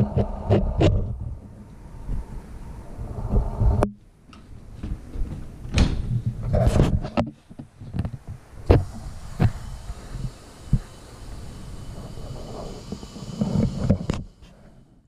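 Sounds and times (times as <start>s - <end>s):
steady low rumble: 0.0s - 7.1s, 7.7s - 15.0s.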